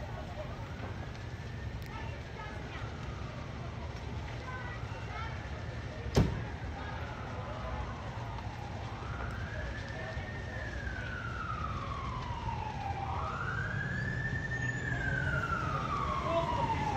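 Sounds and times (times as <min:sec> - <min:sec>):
emergency siren wailing: 0:00.0 - 0:16.9.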